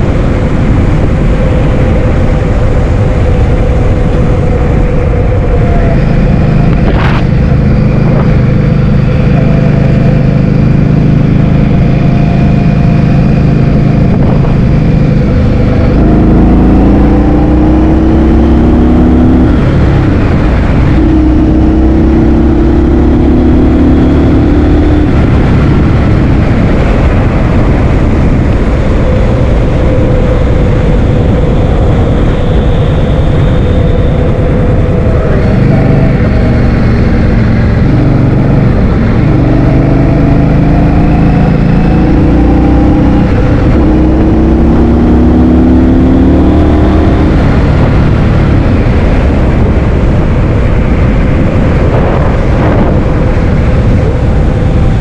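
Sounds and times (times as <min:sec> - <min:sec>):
wind buffeting microphone: 0:00.0 - 0:45.6, 0:46.3 - 0:55.0
vehicle engine: 0:00.0 - 0:55.0.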